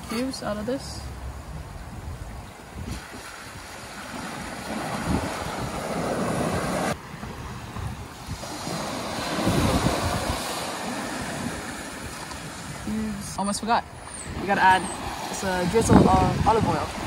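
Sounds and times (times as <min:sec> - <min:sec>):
wind buffeting microphone: 0:00.6 - 0:17.0
small waves washing on beach: 0:02.2 - 0:17.0.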